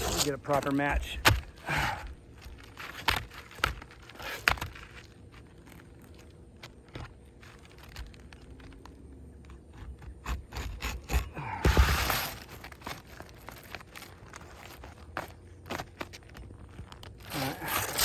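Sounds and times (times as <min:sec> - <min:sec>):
shingle scraping and clicking: 0:00.0 - 0:18.0.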